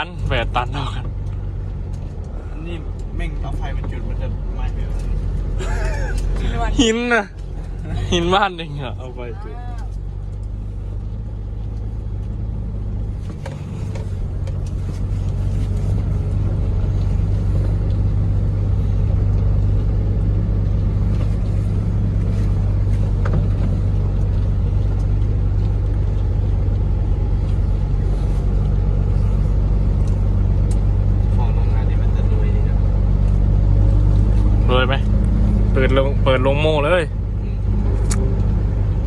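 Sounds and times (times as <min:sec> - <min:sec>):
truck diesel engine droning: 0:00.0 - 0:39.0.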